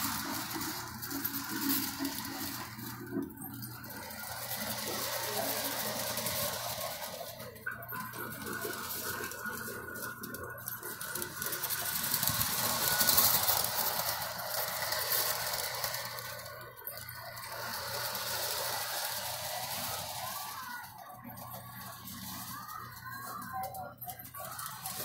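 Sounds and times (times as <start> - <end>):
model train rattling on track: 0.0 - 25.0.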